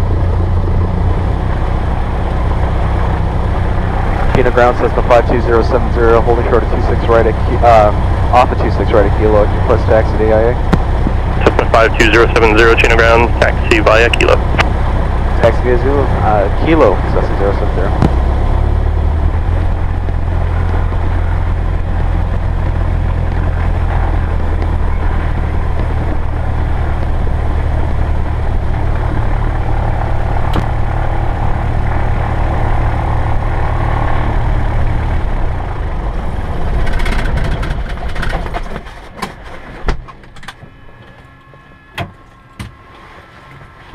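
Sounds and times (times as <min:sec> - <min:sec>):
aircraft engine running: 0:00.0 - 0:43.9.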